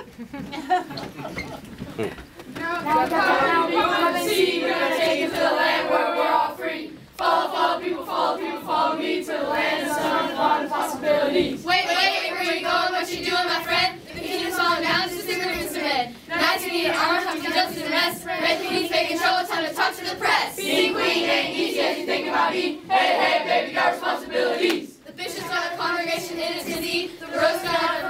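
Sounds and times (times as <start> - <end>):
children singing together: 2.9 - 28.0.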